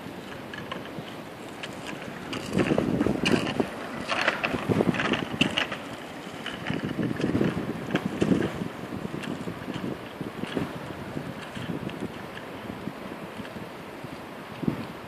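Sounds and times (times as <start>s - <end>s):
bicycle wheels rumbling on concrete: 0.0s - 15.0s
wind buffeting microphone: 0.0s - 15.0s.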